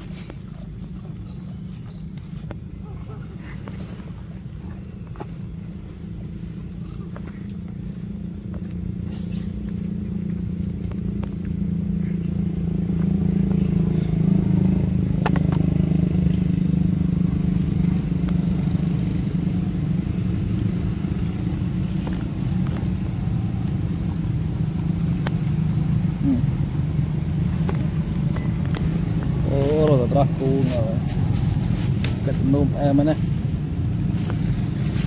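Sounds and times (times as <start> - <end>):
engine droning steadily: 0.0 - 35.0.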